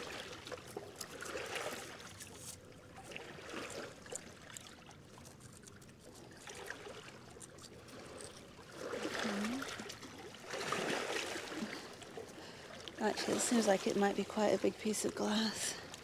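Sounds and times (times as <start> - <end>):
water lapping on rocky shore: 0.0 - 16.0.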